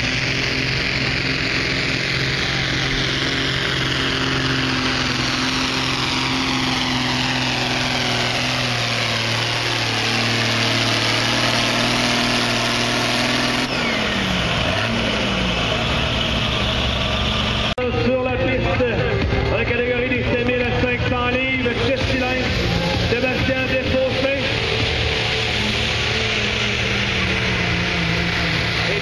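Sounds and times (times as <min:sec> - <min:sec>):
diesel tractor engine under load: 0:00.0 - 0:29.0.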